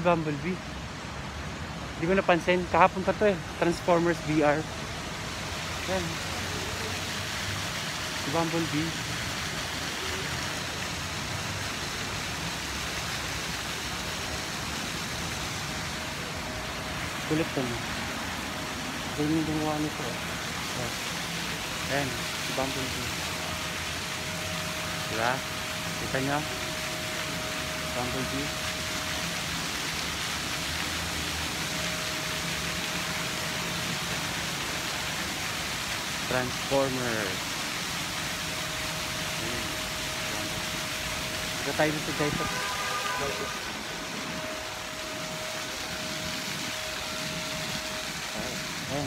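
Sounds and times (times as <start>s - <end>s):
steady outdoor hiss: 0.0s - 49.0s.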